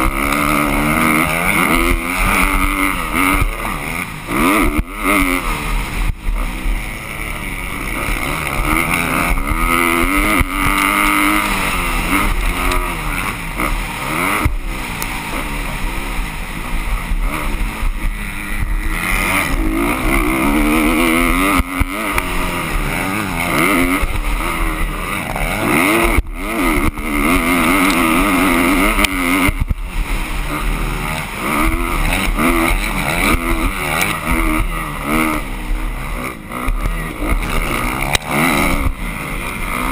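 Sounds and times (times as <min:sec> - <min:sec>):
constant rush of noise: 0:00.0 - 0:39.9
motocross bike engines revving: 0:00.0 - 0:39.9.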